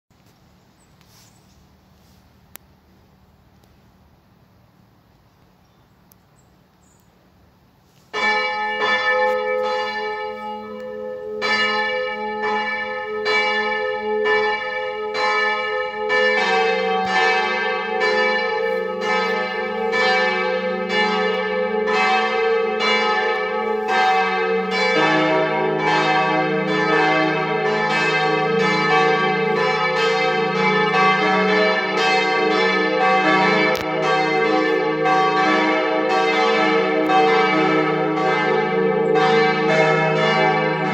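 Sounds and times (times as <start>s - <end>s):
church bells ringing: 8.1s - 40.9s.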